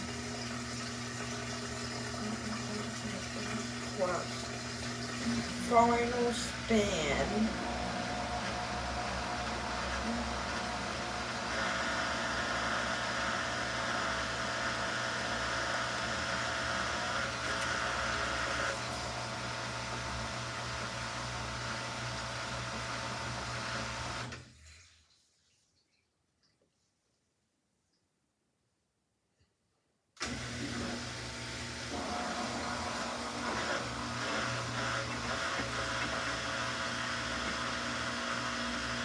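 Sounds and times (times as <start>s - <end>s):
washing machine spinning: 0.0s - 24.6s, 30.2s - 39.0s.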